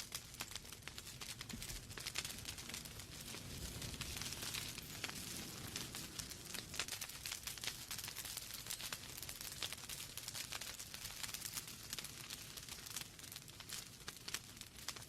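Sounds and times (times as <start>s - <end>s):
flames hissing and rumbling: 0.0s - 15.0s
logs crackling and popping: 0.0s - 15.0s.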